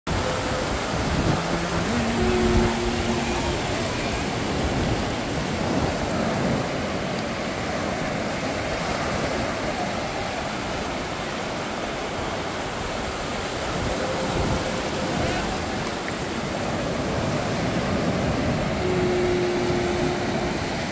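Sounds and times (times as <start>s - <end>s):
ocean surf breaking on beach: 0.1s - 20.9s.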